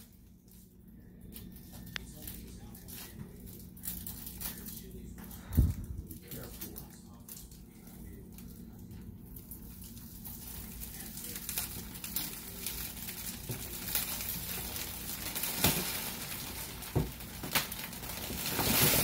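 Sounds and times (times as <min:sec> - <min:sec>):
plastic wrapping rustling: 0:00.0 - 0:19.0.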